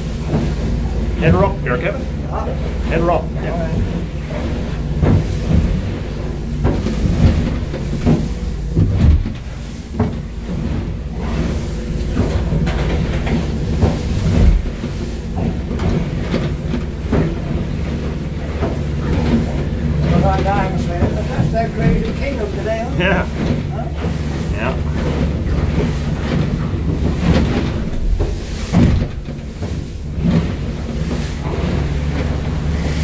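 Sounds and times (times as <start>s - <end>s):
boat engine running: 0.0s - 33.0s
hull thumping into waves: 0.0s - 33.0s.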